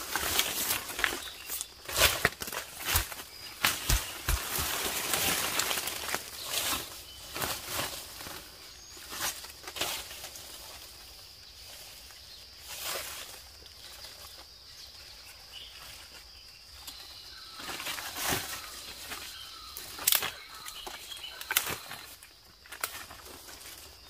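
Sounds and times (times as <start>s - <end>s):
dry roots and leaves rustling: 0.0s - 24.0s
high drone of insects: 0.0s - 24.0s.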